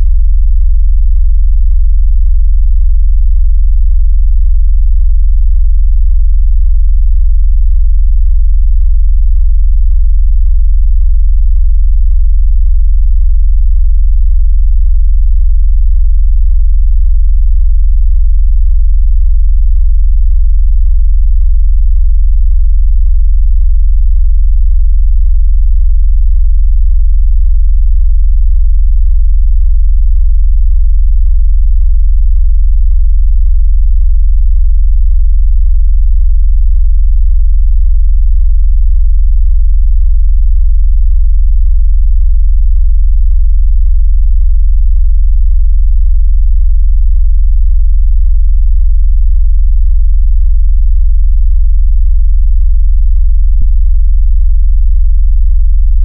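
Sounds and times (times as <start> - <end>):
deep pulsing sine tone: 0.0 - 48.6, 49.2 - 56.0.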